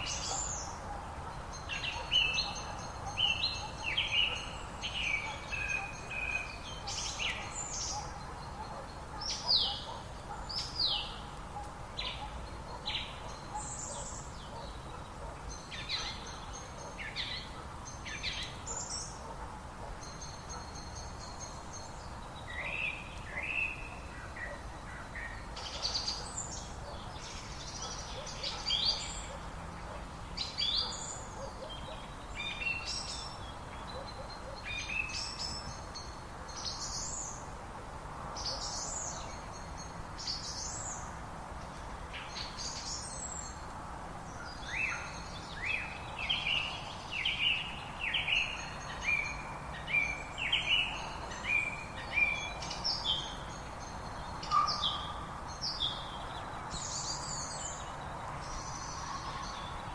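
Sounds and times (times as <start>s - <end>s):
birds chirping and singing: 0.0s - 37.4s, 44.3s - 59.9s.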